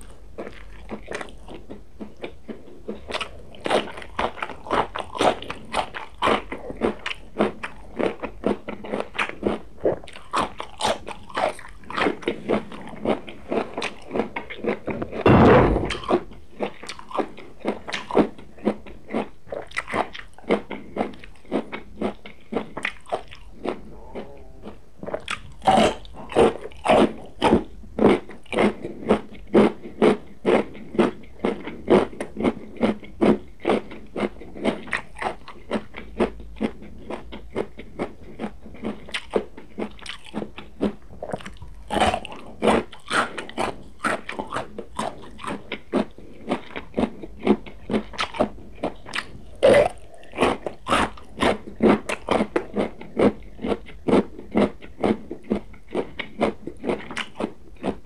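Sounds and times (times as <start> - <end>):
crunchy chewing of raw vegetables: 0.0 - 58.0.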